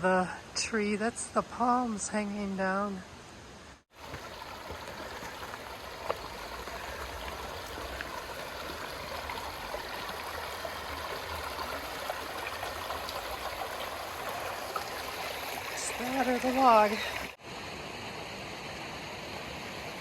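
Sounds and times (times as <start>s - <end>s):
creek water rushing: 3.9s - 20.0s.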